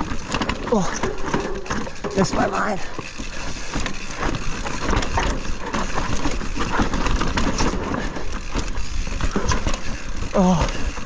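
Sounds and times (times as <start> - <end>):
bike knocking and rattling on rocks: 0.0 - 11.0.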